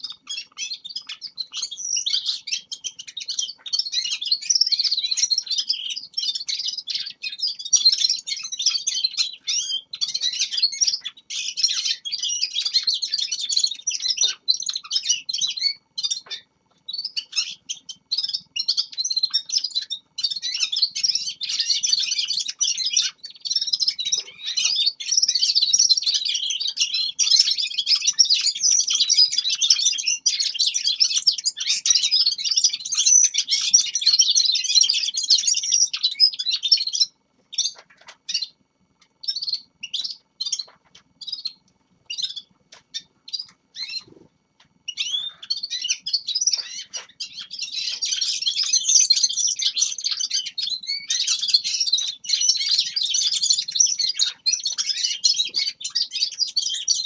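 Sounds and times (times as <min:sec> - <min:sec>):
finches singing and twittering: 0:00.0 - 0:57.0.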